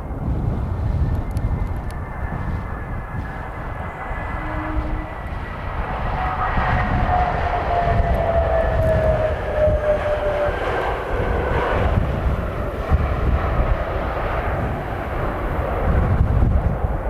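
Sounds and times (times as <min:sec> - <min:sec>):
jet engine whine: 0:00.0 - 0:17.0
wind buffeting microphone: 0:00.0 - 0:17.0.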